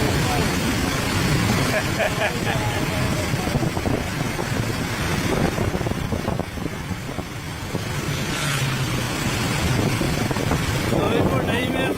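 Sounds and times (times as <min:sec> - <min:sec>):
street traffic: 0:00.0 - 0:11.9.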